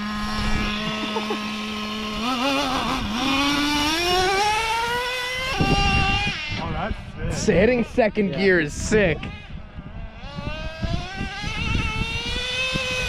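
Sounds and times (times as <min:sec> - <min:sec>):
small nitro engine revving: 0:00.0 - 0:07.5, 0:08.3 - 0:13.0.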